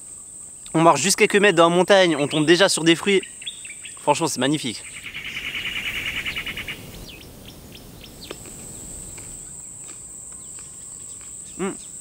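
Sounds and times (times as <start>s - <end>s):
high insect whine: 0.0s - 12.0s
pulsing insect trill: 0.2s - 12.0s.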